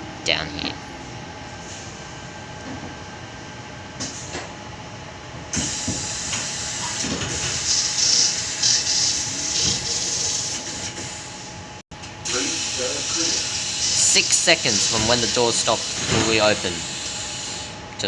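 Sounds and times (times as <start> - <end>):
train carriage hum: 0.0 - 18.0.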